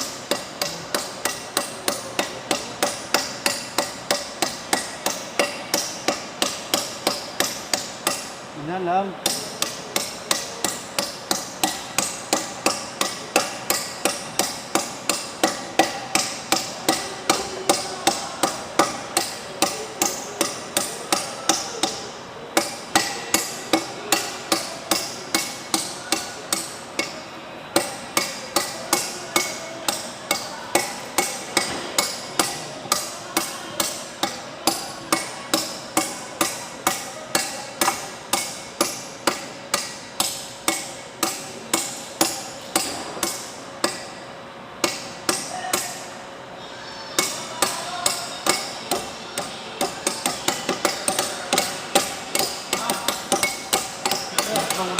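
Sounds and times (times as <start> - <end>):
hammering on metal: 0.0 - 8.4, 9.2 - 44.2, 44.8 - 46.1, 47.2 - 54.9.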